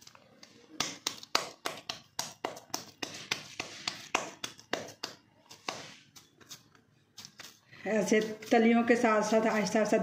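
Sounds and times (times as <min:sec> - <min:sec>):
hands patting dough: 0:00.0 - 0:10.0.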